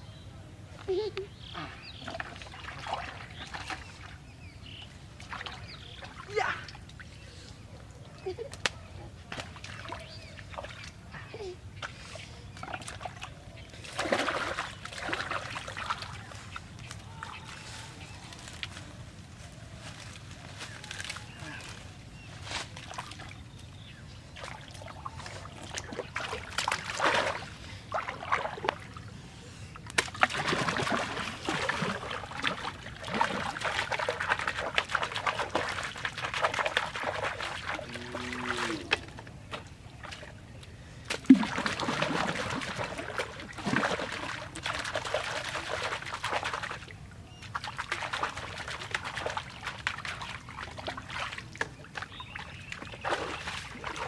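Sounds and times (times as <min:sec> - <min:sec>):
water splashing and sloshing: 0:01.6 - 0:54.0.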